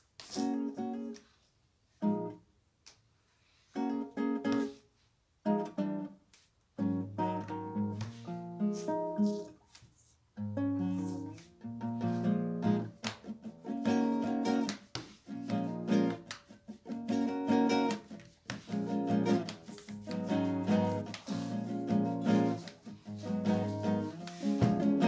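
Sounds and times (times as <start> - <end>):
acoustic guitar music: 0.2 - 1.2, 2.0 - 2.4, 3.7 - 4.8, 5.4 - 6.2, 6.8 - 9.6, 10.4 - 25.0.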